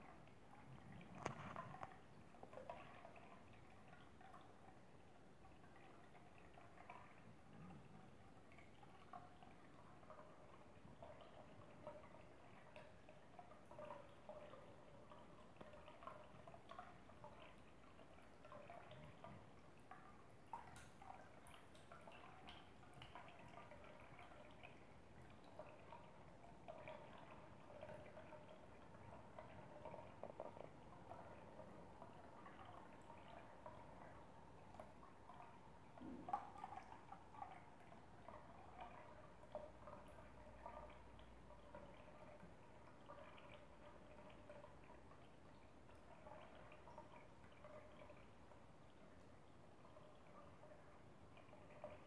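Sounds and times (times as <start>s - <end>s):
water plinks and splashes: 0.0s - 52.0s
water trickling into bowl: 0.0s - 52.0s.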